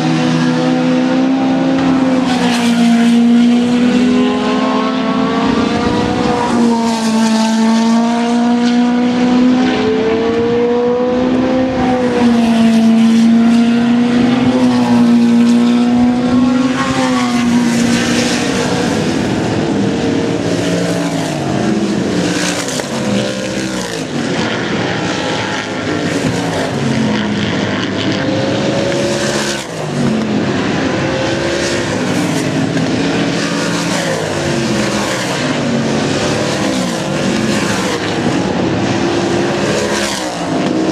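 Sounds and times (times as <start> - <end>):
race car engines passing: 0.0 - 40.9.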